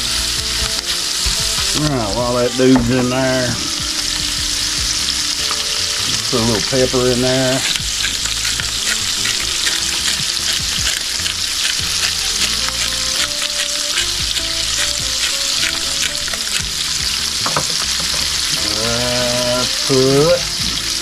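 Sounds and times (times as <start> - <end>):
meat sizzling in a skillet: 0.0 - 21.0.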